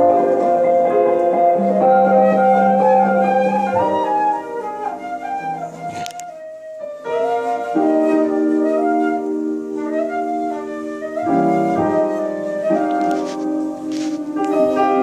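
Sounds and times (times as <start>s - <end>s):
flute-like wind instrument melody: 0.0s - 15.0s
low piano chords: 0.0s - 15.0s.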